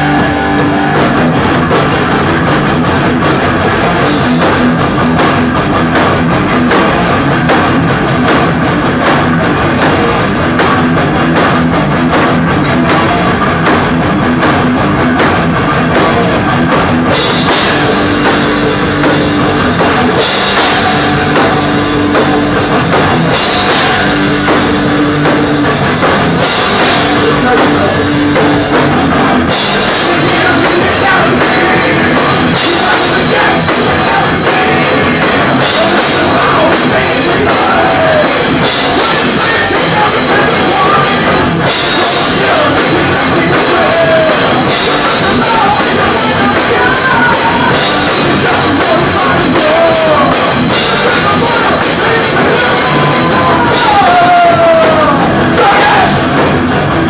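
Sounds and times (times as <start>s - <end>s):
drum kit hits: 0.0s - 57.0s
thrash metal band playing: 0.0s - 57.0s.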